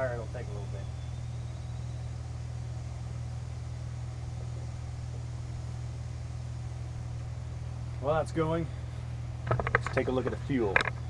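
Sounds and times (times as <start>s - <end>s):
air compressor humming: 0.0s - 11.0s.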